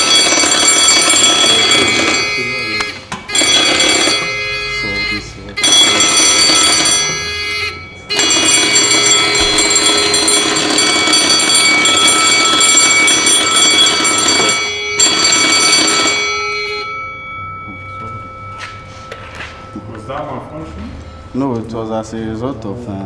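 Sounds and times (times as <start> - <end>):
electric fire alarm bell ringing: 0.0 - 22.9.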